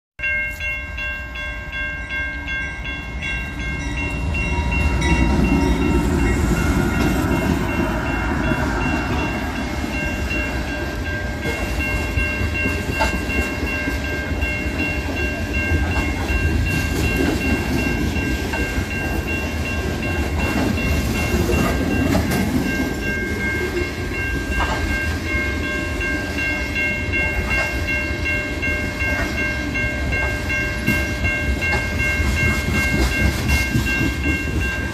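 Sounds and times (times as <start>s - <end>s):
level-crossing bell ringing: 0.2s - 34.9s
freight train wheels clattering: 3.2s - 28.0s, 28.6s - 34.9s.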